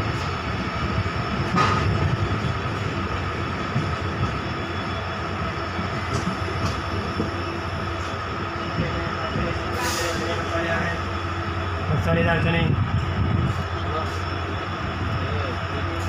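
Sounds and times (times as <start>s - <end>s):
train passing: 0.0s - 16.0s
train wheels rumbling on rail: 0.0s - 16.0s.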